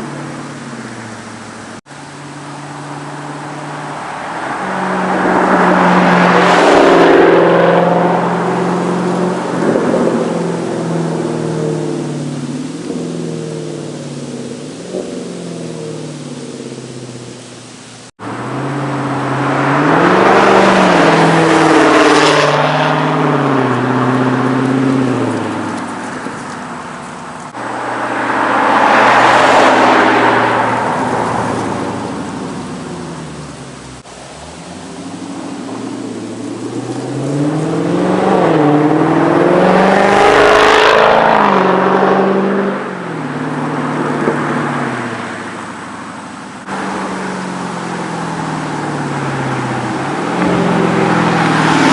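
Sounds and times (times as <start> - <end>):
car exhaust accelerating hard: 0.0 - 51.9.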